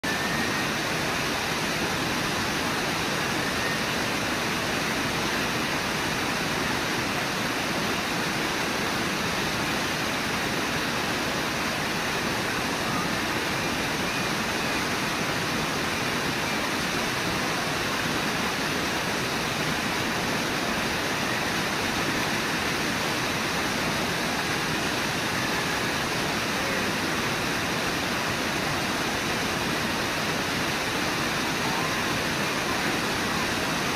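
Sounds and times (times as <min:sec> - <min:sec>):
rushing white water: 0:00.0 - 0:33.9.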